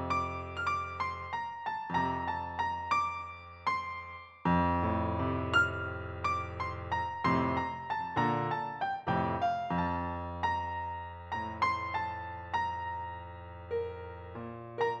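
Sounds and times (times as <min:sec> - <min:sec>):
slow piano-like keyboard melody: 0:00.0 - 0:15.0.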